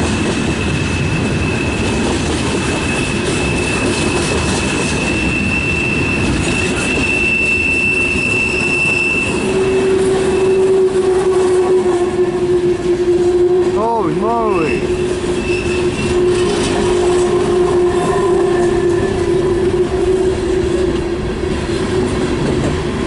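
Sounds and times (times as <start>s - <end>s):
rumble and clatter of wheels: 0.0s - 14.2s, 14.8s - 23.0s
train wheel squeal: 0.0s - 23.0s.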